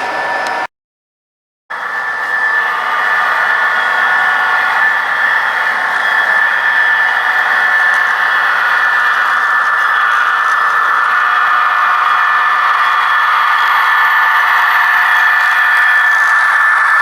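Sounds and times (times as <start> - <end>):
model train motor whirring: 0.0 - 0.7, 1.7 - 17.0.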